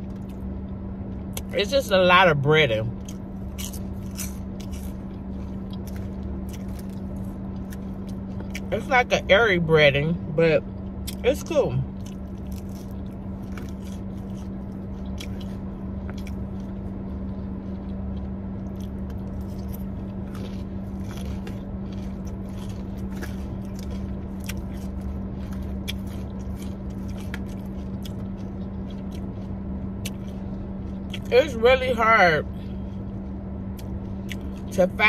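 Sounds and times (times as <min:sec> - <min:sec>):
chewing crunchy fried food: 0:00.0 - 0:09.2, 0:09.8 - 0:35.0
steady low hum: 0:00.0 - 0:35.0.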